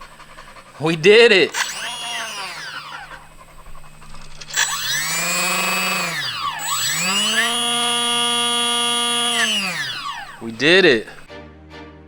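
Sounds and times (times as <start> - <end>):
electric motor whining: 0.0 - 11.3.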